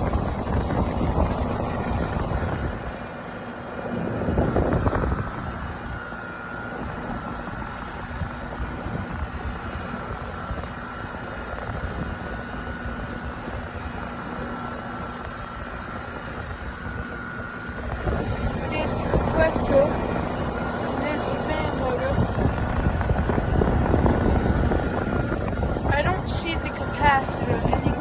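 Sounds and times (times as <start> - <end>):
compressor humming: 0.0 - 28.0
fan rushing: 0.0 - 28.0.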